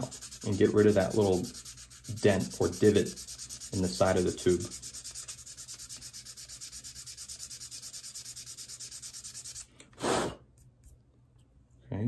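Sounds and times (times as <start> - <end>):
sandpaper rubbing on cane: 0.0 - 9.7.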